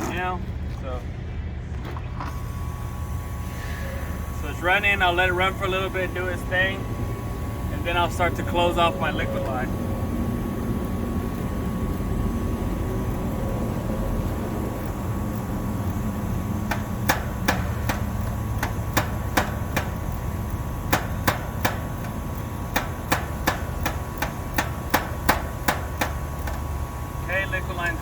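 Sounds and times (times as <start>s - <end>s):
air conditioner unit humming: 0.0s - 28.0s.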